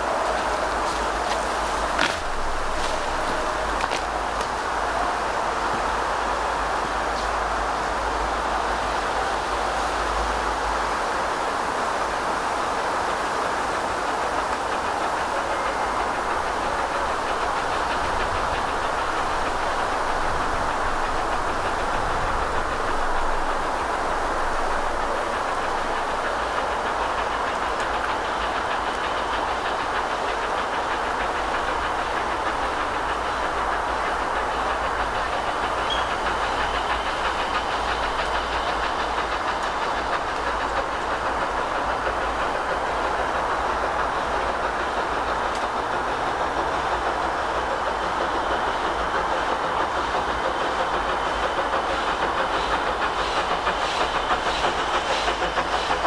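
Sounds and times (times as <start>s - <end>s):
train rolling along track: 0.0s - 56.0s.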